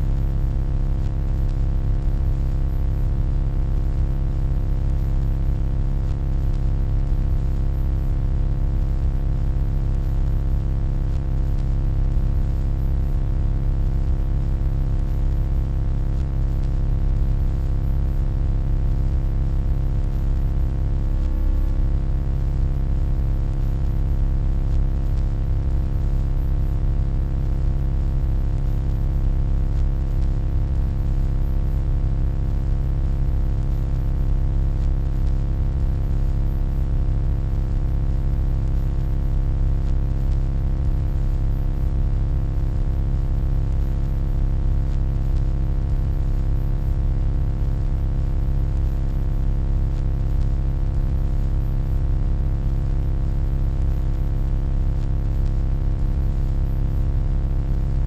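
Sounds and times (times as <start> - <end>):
low electronic hum: 0.0 - 47.1, 47.9 - 48.9, 49.9 - 50.2, 51.0 - 52.0, 53.8 - 55.4, 56.2 - 58.0.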